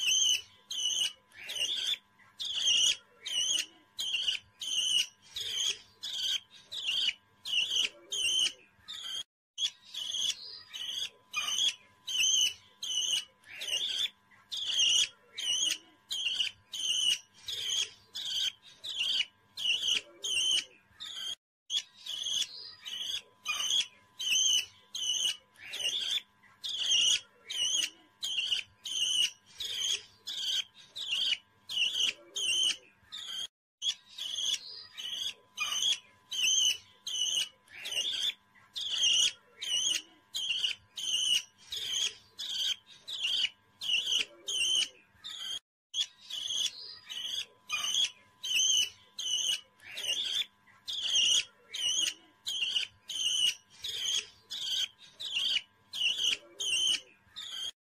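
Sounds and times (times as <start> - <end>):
baby parrot chirping: 0.0 - 57.8.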